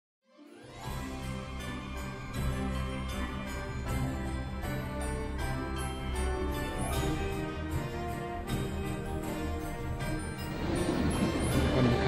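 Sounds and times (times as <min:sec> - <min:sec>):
background music with held chords: 0:00.3 - 0:12.0.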